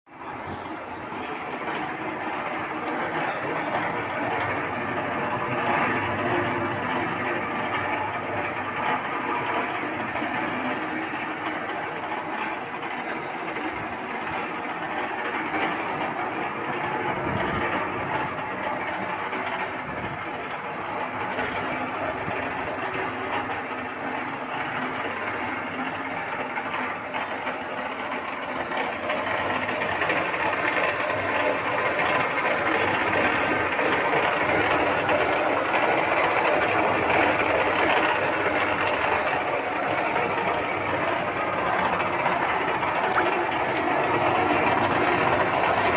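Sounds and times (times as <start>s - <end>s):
concrete mixer running: 0.1s - 45.9s.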